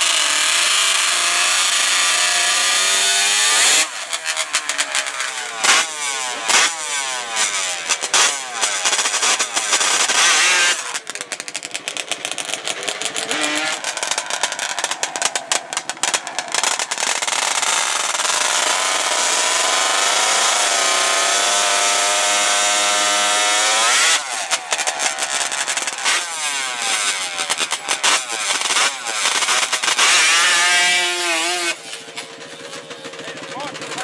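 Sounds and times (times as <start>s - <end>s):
atv engines revving: 0.0s - 34.0s.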